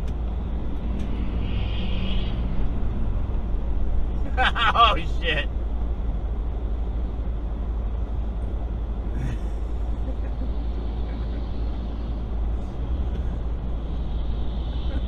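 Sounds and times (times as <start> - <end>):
car driving on snowy road: 0.0 - 15.0.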